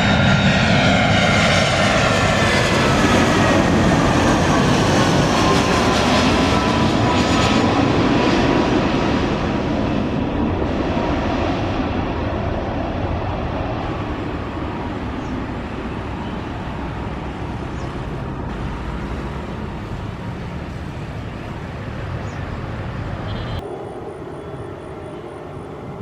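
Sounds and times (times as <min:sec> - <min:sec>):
jet engine rush: 0:00.0 - 0:26.0.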